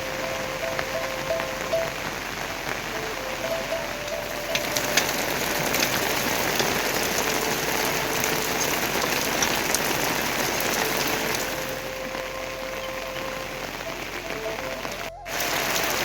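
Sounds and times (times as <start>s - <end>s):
heavy rain hissing: 0.0s - 16.0s
raindrops ticking: 0.0s - 16.0s.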